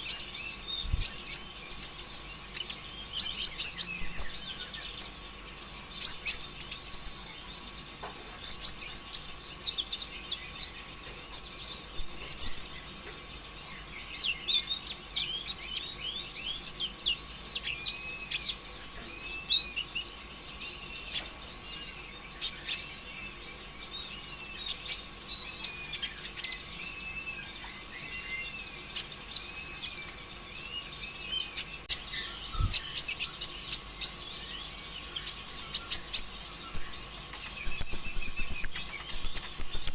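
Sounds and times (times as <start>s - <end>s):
bird chattering and chirping: 0.0s - 39.9s
faint steady hum: 0.0s - 39.9s.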